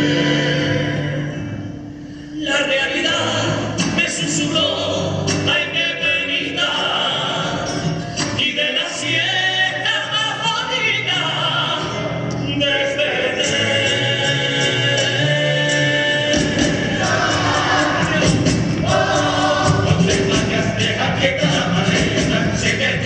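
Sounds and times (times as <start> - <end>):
choir singing in several voices: 0.0 - 1.7, 2.4 - 12.0, 12.6 - 23.0
guitars: 0.0 - 23.0.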